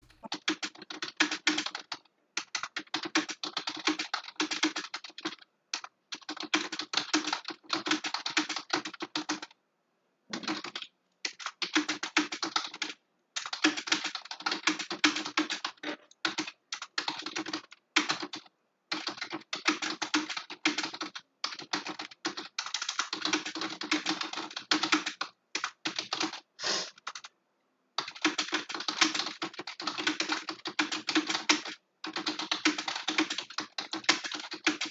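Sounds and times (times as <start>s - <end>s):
fast typing on a keyboard: 0.0s - 9.6s, 10.3s - 27.4s, 28.0s - 34.9s.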